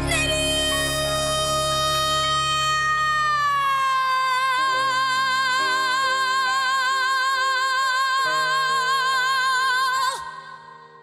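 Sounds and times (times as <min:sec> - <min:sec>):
woman singing long high note: 0:00.0 - 0:10.4.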